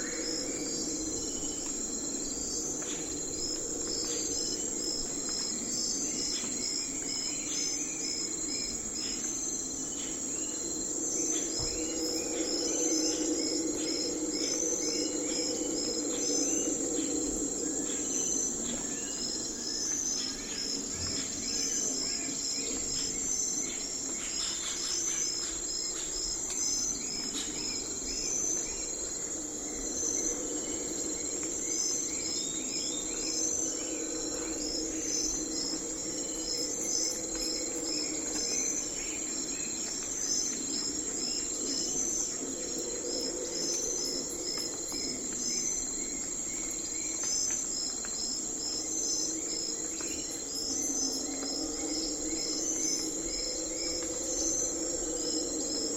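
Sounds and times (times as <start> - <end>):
crickets and insects chirping: 0.0 - 55.9
high continuous drone: 0.0 - 55.9.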